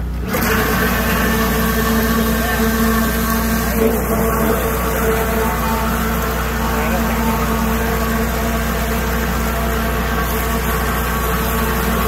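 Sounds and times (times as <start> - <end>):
grinder pump motor hum: 0.0 - 12.0.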